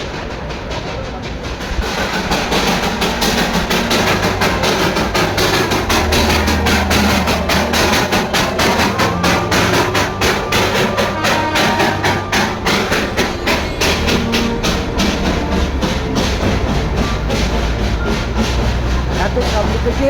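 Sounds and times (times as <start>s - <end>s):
train clattering past: 0.0s - 20.0s.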